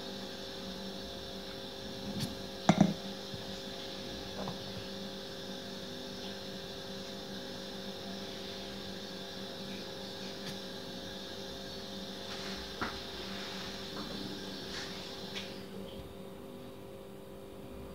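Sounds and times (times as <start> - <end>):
appliance hum: 0.0 - 17.9.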